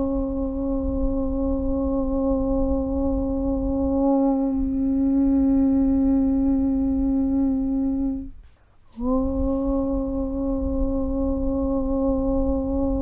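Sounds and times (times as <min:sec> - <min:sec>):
person chanting aum: 0:00.0 - 0:13.0.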